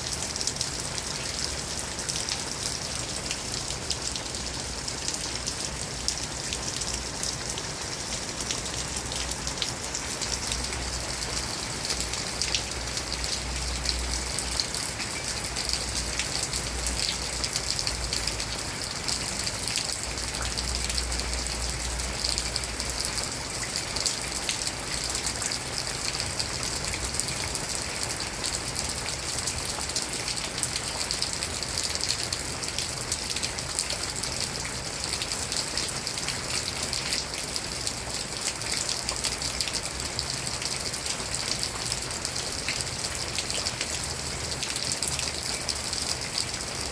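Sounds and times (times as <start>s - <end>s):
raindrops ticking on surfaces: 0.0s - 46.9s.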